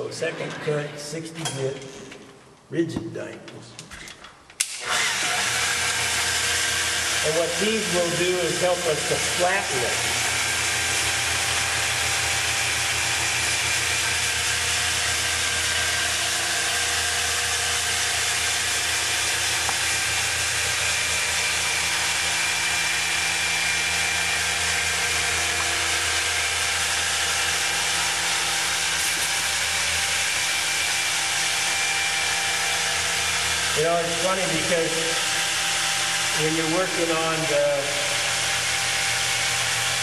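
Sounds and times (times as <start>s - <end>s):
electric polisher motor whine: 4.6s - 40.0s.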